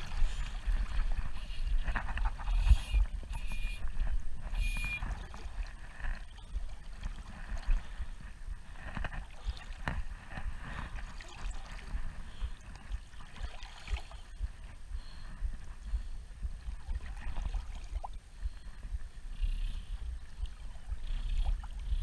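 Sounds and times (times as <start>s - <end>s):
river water running: 0.0s - 22.0s
wind buffeting microphone: 0.0s - 22.0s.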